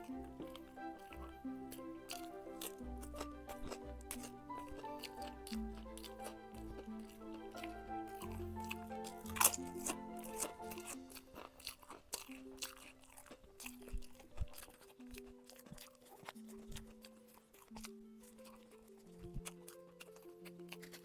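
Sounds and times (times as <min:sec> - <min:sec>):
background music held notes: 0:00.0 - 0:21.0
crunchy snack chewing: 0:00.0 - 0:21.0.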